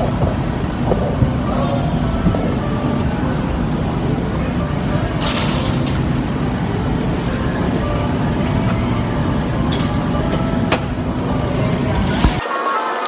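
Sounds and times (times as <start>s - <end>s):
low rumbling noise: 0.0s - 12.4s.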